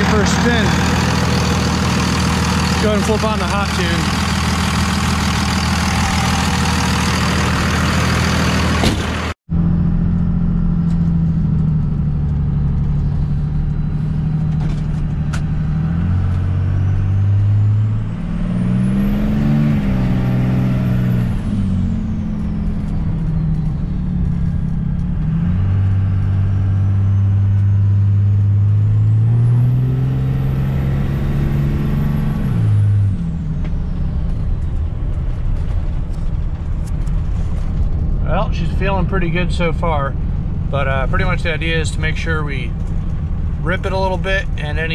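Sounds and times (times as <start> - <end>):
diesel truck engine revving: 0.0 - 44.9.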